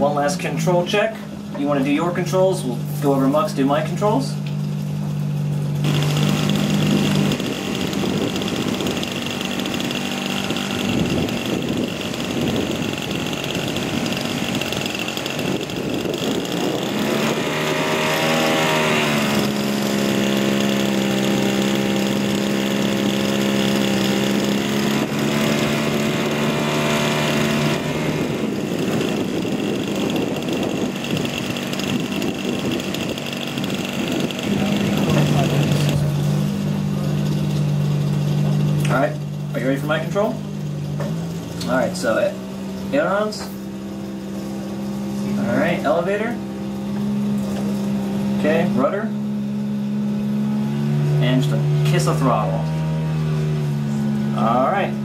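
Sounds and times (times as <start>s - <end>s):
model aircraft engine running: 5.8s - 54.9s.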